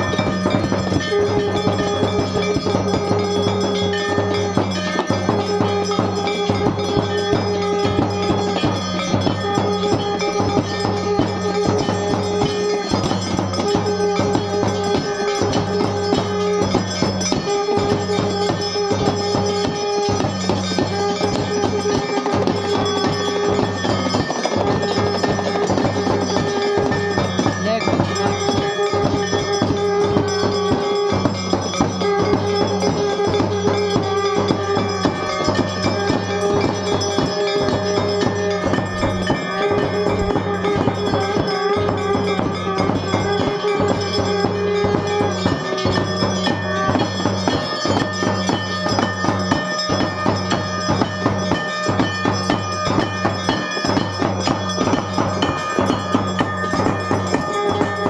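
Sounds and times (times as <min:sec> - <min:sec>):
held tone: 0:00.0 - 0:49.4
bells rung rapidly: 0:00.0 - 0:58.0
drumming: 0:00.0 - 0:58.0.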